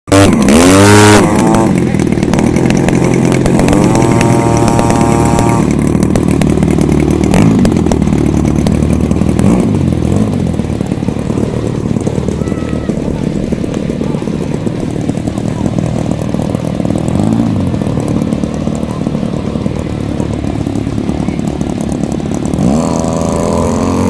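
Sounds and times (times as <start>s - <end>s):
model plane engine whining: 0.3s - 24.0s.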